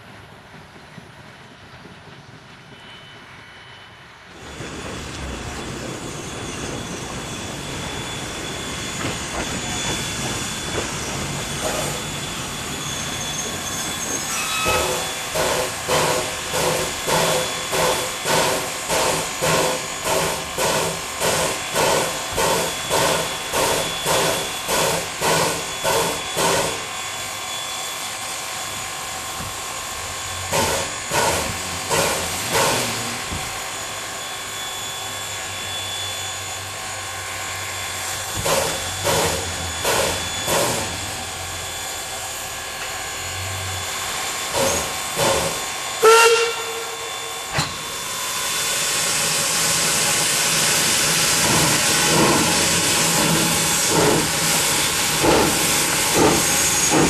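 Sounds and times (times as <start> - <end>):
steam locomotive chuffing: 0.0 - 57.0
steam hissing: 4.3 - 57.0.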